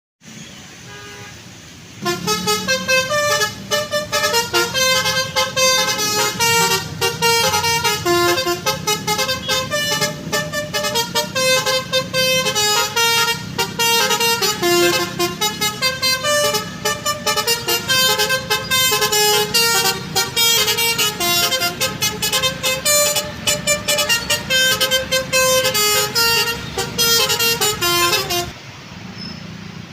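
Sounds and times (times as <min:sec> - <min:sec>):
bus horn playing a melody: 0:00.8 - 0:01.4, 0:02.0 - 0:28.6.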